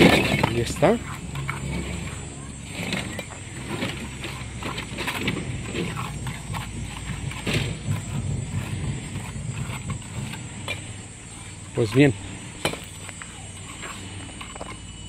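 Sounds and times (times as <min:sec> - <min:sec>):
low engine hum: 0:00.0 - 0:15.0
stones knocking and scraping: 0:00.0 - 0:15.0.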